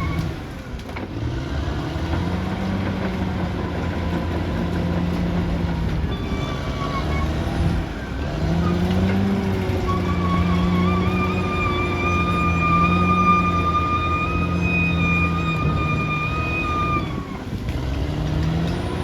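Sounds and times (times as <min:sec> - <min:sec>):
bulldozer diesel engine under load: 0:00.0 - 0:19.0.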